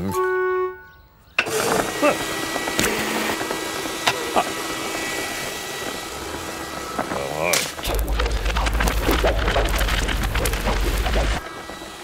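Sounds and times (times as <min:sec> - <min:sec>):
vacuum cleaner running: 0:01.4 - 0:12.0.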